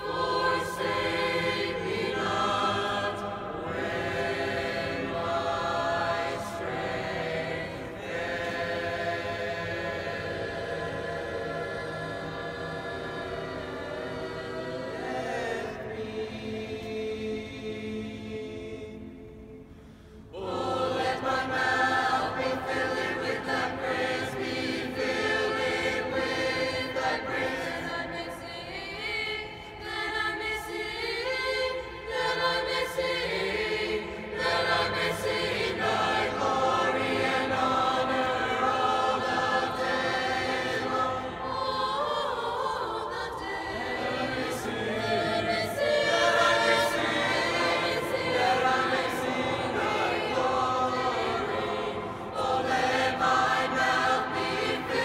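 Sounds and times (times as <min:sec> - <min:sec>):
choir singing with long echo: 0:00.0 - 0:55.0.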